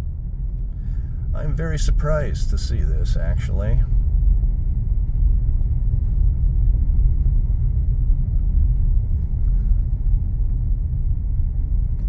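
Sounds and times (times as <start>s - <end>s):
car driving slowly: 0.0s - 12.0s.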